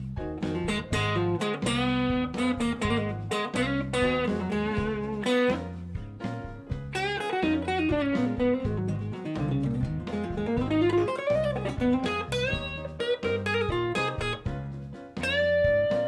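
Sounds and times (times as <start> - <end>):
electric guitar blues lead: 0.2 - 16.0.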